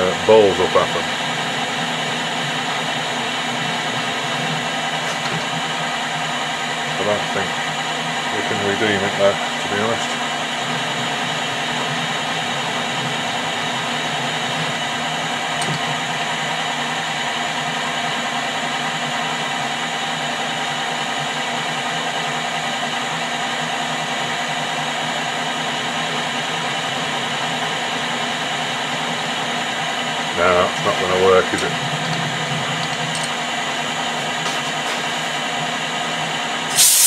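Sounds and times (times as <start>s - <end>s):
motor and gears whine: 0.0s - 37.0s
metal lathe whirring: 0.8s - 37.0s.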